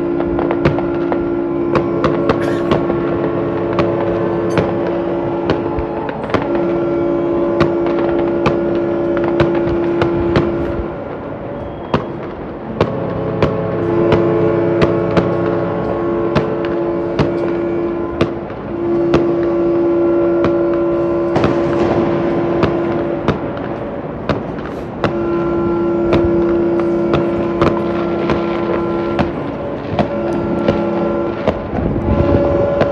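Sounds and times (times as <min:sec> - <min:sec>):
firework bangs: 0:00.0 - 0:32.9
yacht horns blasting: 0:00.0 - 0:32.9.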